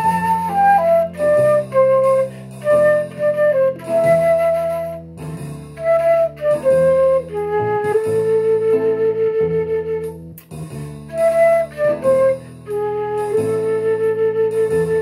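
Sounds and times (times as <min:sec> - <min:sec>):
flute playing slow melody: 0:00.0 - 0:15.0.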